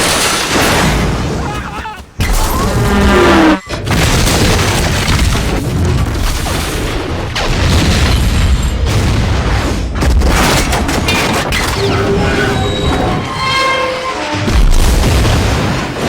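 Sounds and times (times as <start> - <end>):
booming explosions: 0.0 - 13.4, 14.3 - 16.0
freight cars crashing and tumbling: 0.0 - 16.0.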